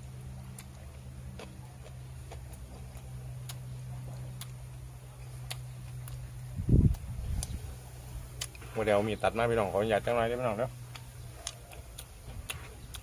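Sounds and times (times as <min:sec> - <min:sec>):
chewing: 0:00.0 - 0:13.0
steady low hum: 0:00.0 - 0:13.0.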